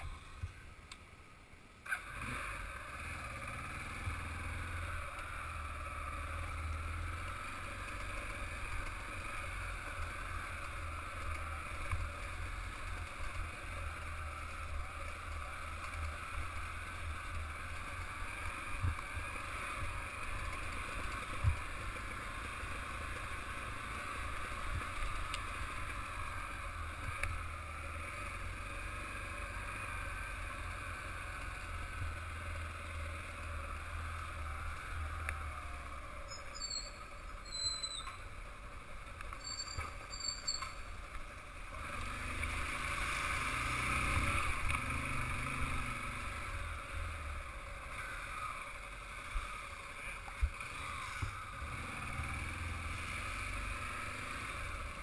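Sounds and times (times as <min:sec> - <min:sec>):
motorcycle engine running: 0:01.9 - 0:55.0.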